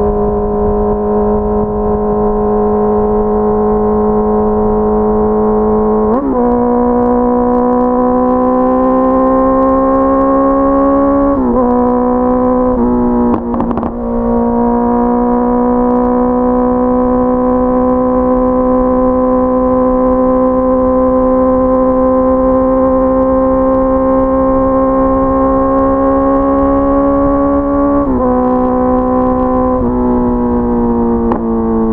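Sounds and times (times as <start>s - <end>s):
motorcycle engine at high revs: 0.0s - 31.9s
wind noise: 0.0s - 31.9s.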